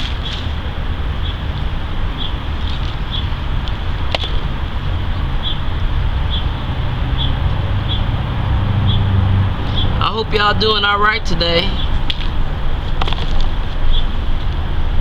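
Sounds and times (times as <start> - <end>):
small bird chirping: 0.0 - 14.2
low traffic rumble: 0.0 - 15.0.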